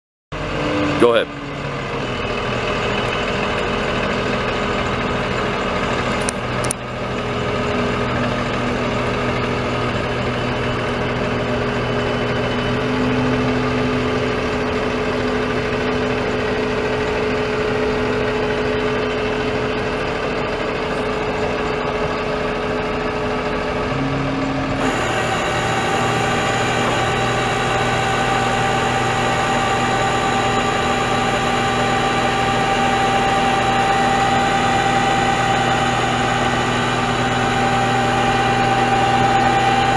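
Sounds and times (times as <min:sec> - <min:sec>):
diesel truck engine idling: 0:00.4 - 0:39.9.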